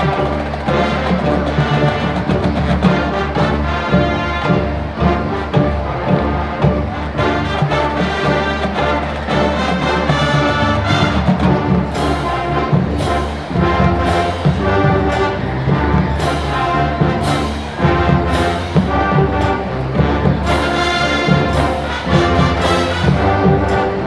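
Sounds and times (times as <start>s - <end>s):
drums: 0.0s - 24.0s
marching band brass chords: 0.0s - 24.0s.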